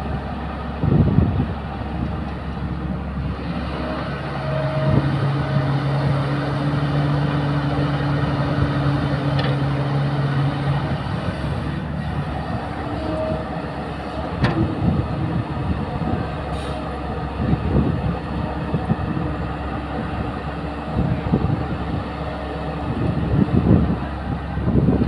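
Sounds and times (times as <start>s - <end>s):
excavator diesel engine rumbling: 0.0s - 25.0s.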